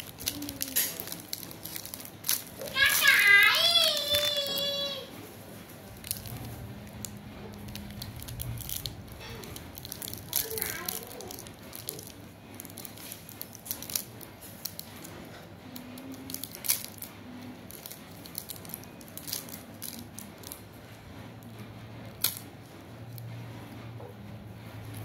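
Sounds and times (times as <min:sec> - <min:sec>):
fingers clicking and rustling: 0:00.0 - 0:04.9, 0:05.8 - 0:20.8, 0:21.4 - 0:23.5.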